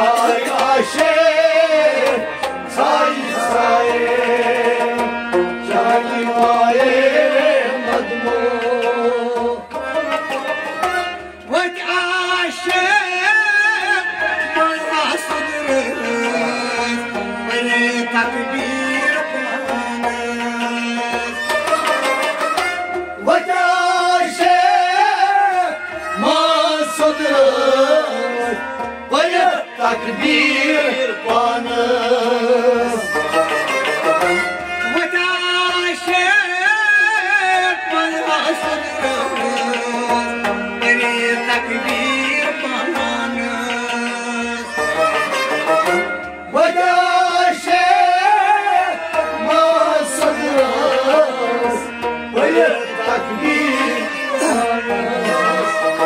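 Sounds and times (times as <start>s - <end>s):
folk melodic instruments: 0.0s - 56.0s.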